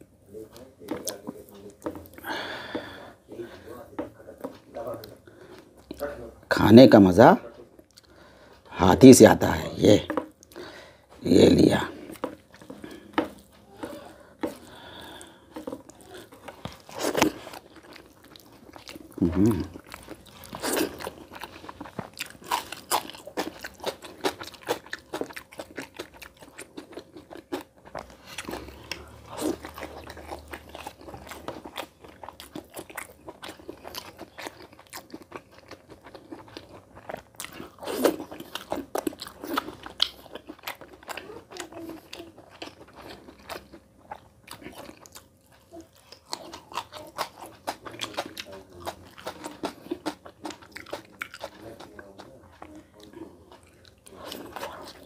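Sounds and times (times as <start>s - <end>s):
chewing and lip smacking: 0.4s - 2.3s, 12.0s - 55.0s.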